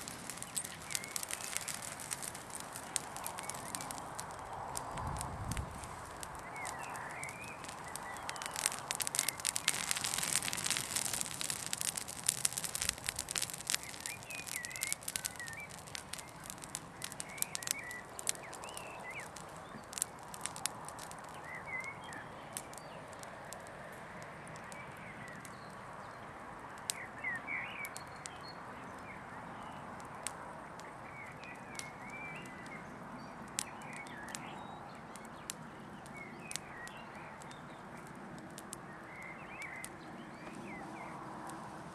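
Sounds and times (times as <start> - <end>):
small birds chirping: 0.0 - 23.7, 24.4 - 41.2
fire crackling and popping: 0.0 - 41.9.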